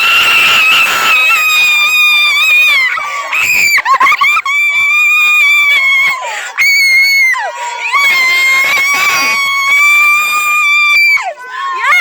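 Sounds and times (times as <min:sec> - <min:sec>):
high-pitched screams: 0:00.0 - 0:12.0.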